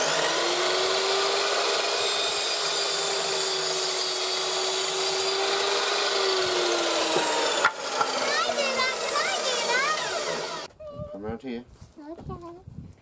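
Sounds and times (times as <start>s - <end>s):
mitre saw whining: 0.0s - 10.7s.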